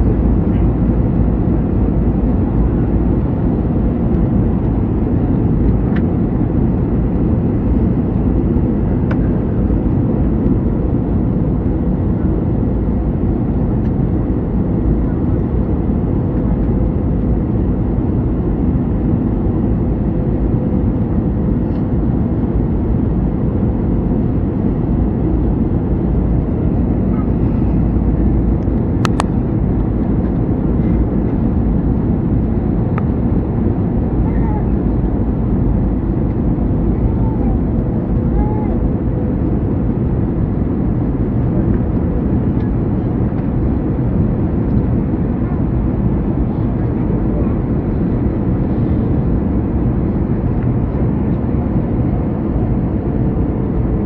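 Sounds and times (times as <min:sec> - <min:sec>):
jet cabin engine noise: 0:00.0 - 0:54.0.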